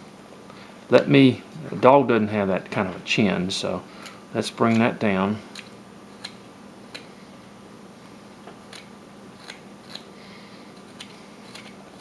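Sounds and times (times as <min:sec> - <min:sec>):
faint background hum: 0:00.0 - 0:12.0.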